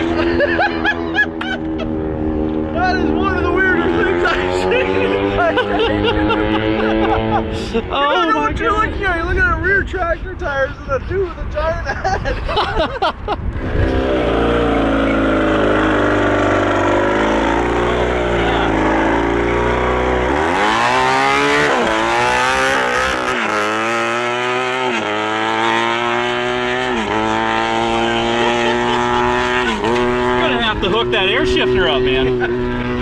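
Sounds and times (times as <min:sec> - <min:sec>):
motorcycle engine revving: 0:00.0 - 0:07.9, 0:13.4 - 0:33.0.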